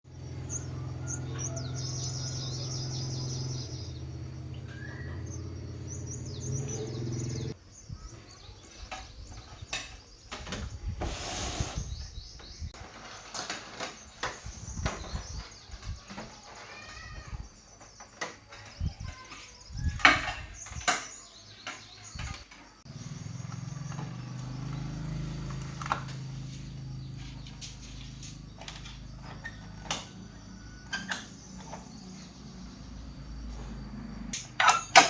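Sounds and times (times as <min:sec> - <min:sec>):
birds chirping: 0:00.0 - 0:12.8, 0:13.6 - 0:35.0.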